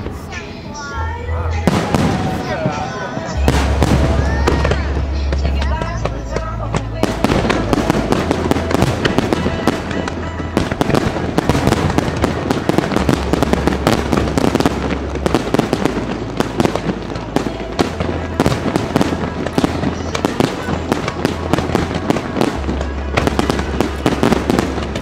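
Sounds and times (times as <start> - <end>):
fireworks bangs and crackles: 0.0 - 25.0
music with bass: 3.4 - 25.0.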